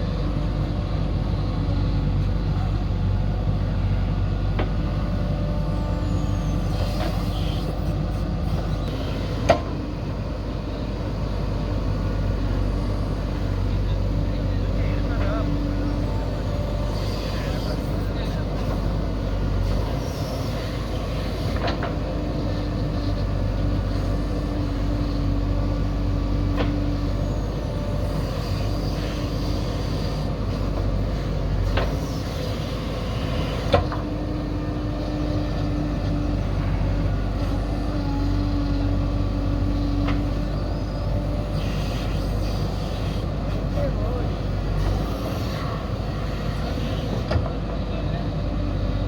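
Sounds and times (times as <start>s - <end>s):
diesel engine of heavy machinery: 0.0s - 49.0s.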